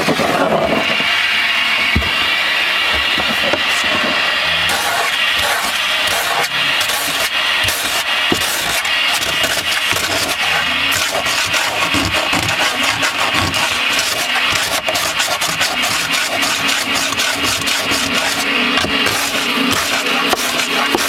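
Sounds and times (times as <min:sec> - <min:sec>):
shop vacuum running: 0:00.0 - 0:21.0
sanding on wood: 0:03.7 - 0:21.0.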